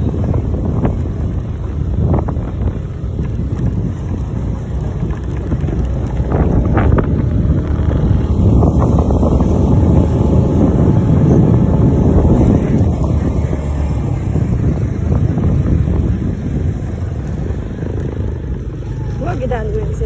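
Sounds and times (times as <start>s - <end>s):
motorcycle engine: 0.0s - 20.0s
road noise: 0.0s - 20.0s
wind buffeting microphone: 0.0s - 20.0s.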